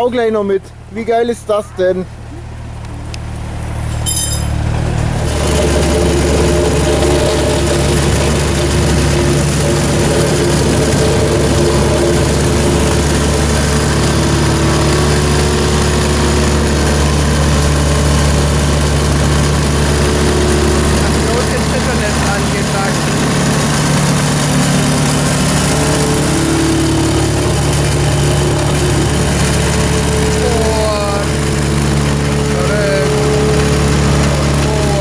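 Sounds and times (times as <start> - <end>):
plate compactor engine drone: 0.0 - 35.0.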